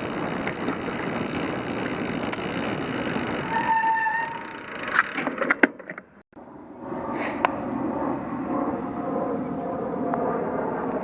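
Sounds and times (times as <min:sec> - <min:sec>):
bicycle tyres and wind: 0:00.0 - 0:11.0.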